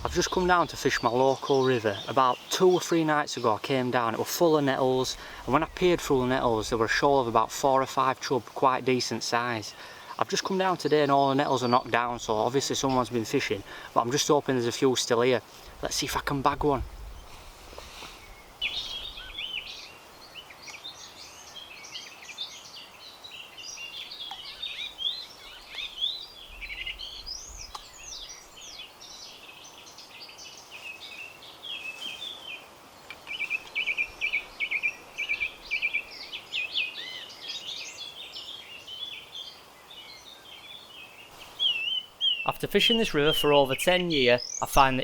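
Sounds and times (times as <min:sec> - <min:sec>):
faint steady hiss: 0:00.0 - 0:45.0
songbirds singing: 0:00.0 - 0:45.0.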